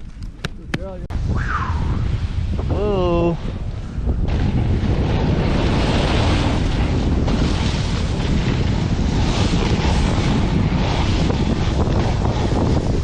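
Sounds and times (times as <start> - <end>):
wind buffeting microphone: 0.0 - 13.0
snowboard sliding through snow: 1.3 - 13.0.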